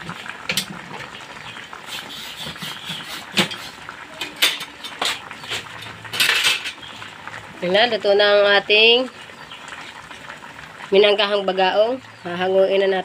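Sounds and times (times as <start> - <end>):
food simmering in a wok: 0.0 - 13.0.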